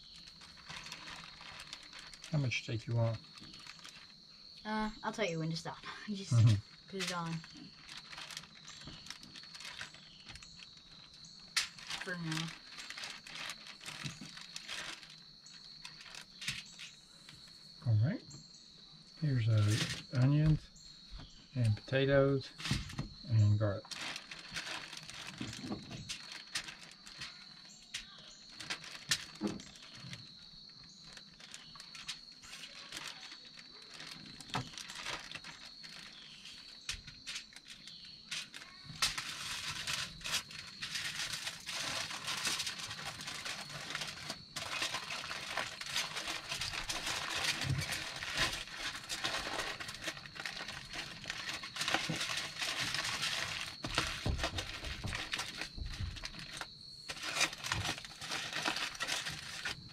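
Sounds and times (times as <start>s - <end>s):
foil and plastic bag crinkling: 0.0s - 17.6s, 19.2s - 20.6s, 21.7s - 59.9s.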